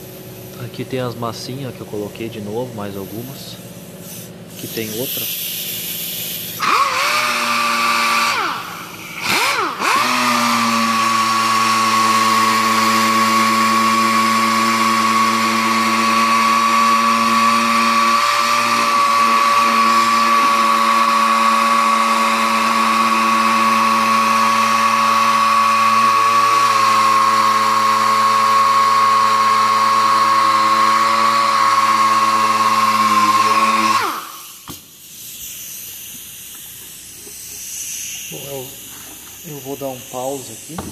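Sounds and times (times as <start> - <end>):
air sander whining: 0.0 - 40.9.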